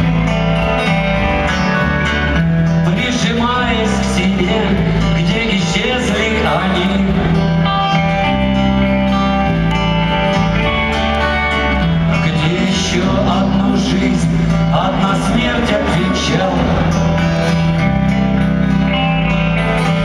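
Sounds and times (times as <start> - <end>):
live rock band: 0.0 - 20.0.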